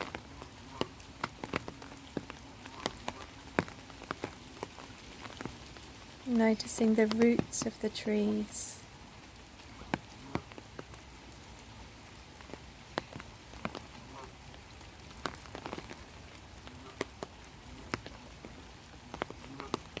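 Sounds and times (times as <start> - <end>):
light rain hissing: 0.0 - 20.0
raindrops ticking: 0.0 - 20.0.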